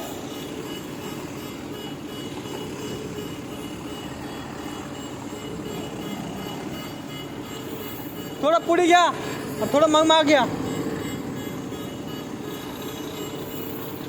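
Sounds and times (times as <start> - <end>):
heavy engine running: 0.0 - 14.0.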